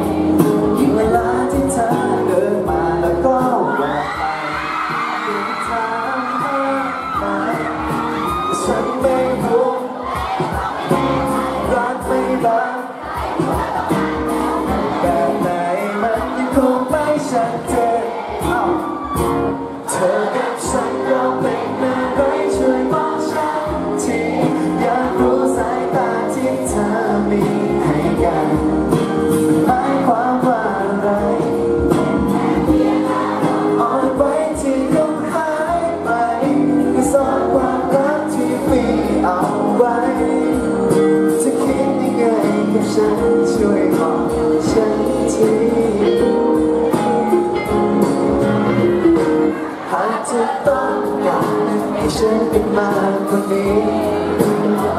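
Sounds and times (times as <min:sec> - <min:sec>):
instrumental accompaniment: 0:00.0 - 0:54.9
man singing pop ballad: 0:00.0 - 0:54.9.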